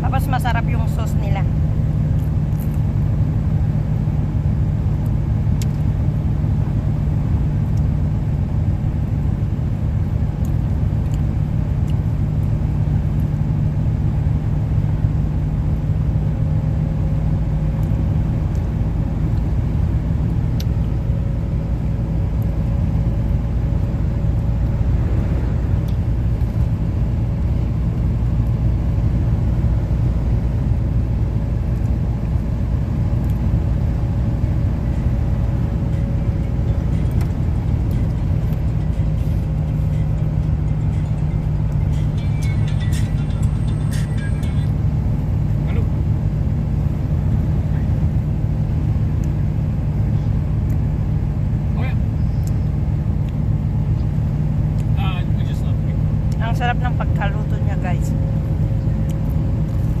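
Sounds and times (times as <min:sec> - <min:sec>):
car cabin rumble: 0:00.0 - 1:00.0.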